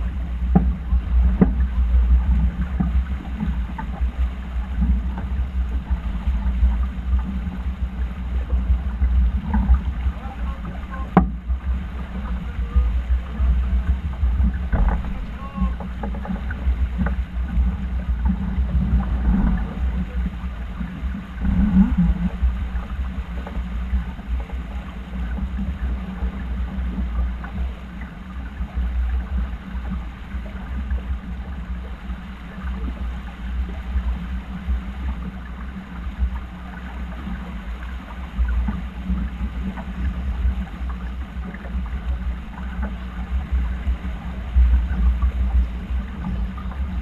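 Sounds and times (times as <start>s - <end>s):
water rushing along hull: 0.0s - 47.0s
wind buffeting microphone: 0.0s - 47.0s.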